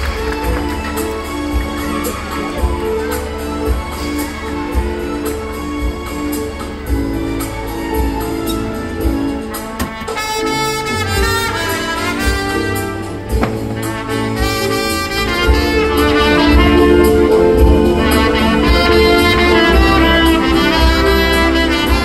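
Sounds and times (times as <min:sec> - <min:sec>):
lively brass music: 0:00.0 - 0:22.0
trumpet melody: 0:00.0 - 0:22.0.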